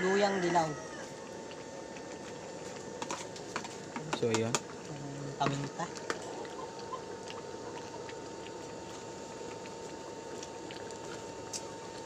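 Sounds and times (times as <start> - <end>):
stew simmering with pops: 0.7 - 12.0.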